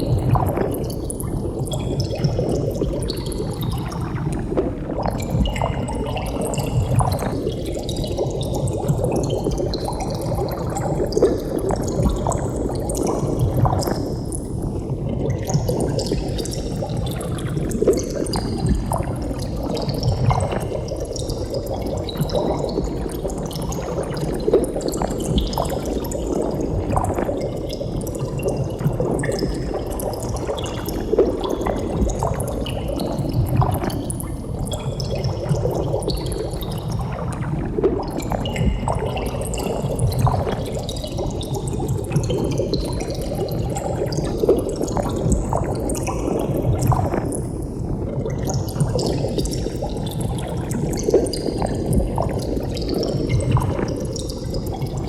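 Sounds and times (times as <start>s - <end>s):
water bubbling: 0.0s - 55.0s.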